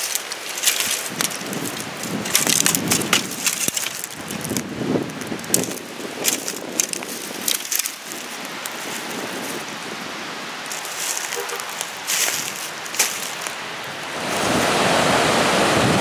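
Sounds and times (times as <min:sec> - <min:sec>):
footsteps crunching dry leaves: 0:00.0 - 0:14.4.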